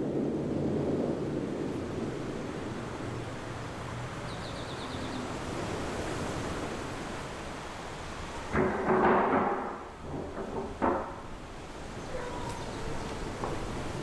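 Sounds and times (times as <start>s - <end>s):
steady rushing rumbling noise: 0.0s - 14.0s.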